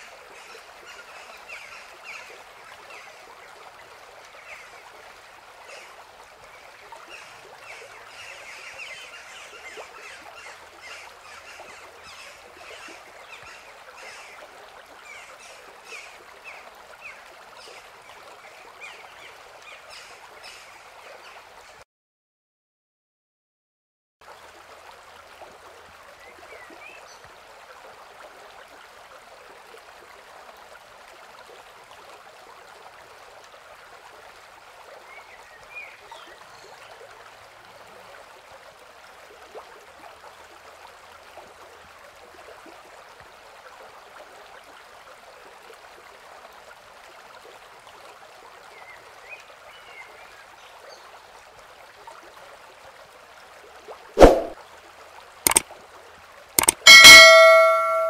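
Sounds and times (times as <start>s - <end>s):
running water rushing: 0.0s - 21.8s, 24.2s - 58.0s.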